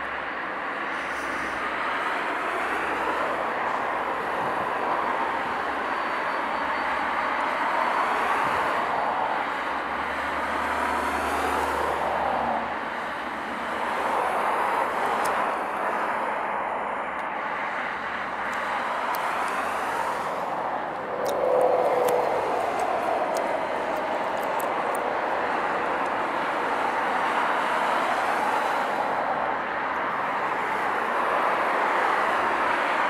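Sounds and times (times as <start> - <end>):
jet engines at taxi power: 0.0 - 33.0.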